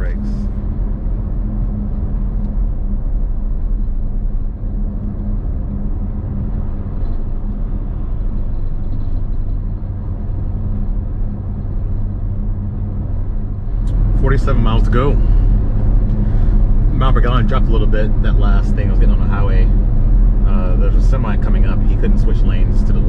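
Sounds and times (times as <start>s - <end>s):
car engine and tyres droning: 0.0s - 23.0s.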